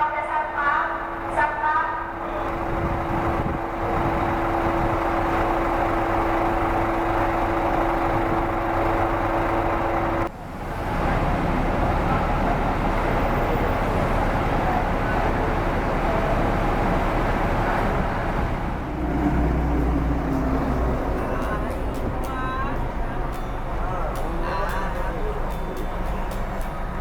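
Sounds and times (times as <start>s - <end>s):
coach engine and road noise: 0.0s - 27.0s.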